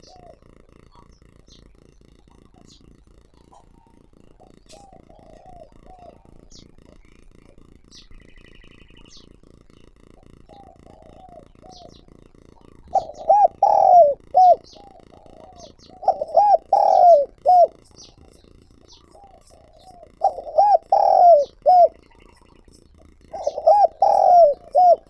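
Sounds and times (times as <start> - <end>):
high chirps of small birds: 0.0 - 1.8, 2.6 - 9.4, 10.3 - 12.2, 12.8 - 25.0
dove cooing: 0.0 - 25.0.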